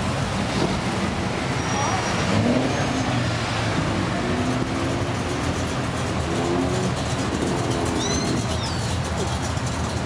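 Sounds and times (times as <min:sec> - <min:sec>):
cars driving past: 0:00.0 - 0:10.0.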